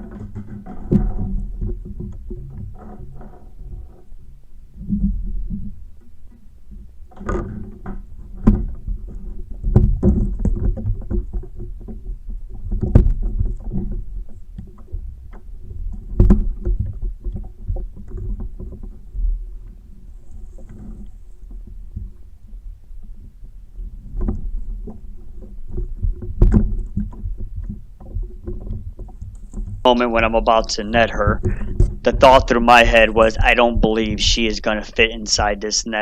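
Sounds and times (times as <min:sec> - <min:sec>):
low rumble of water: 0:00.0 - 0:36.0.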